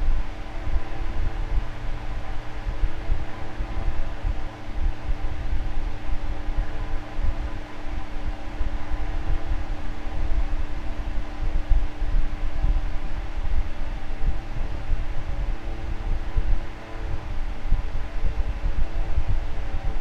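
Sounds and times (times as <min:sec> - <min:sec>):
electric fan whirring: 0:00.0 - 0:20.0.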